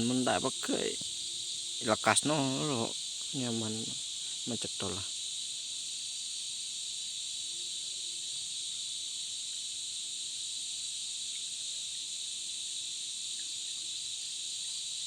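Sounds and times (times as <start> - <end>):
night insects shrill drone: 0.0 - 15.0.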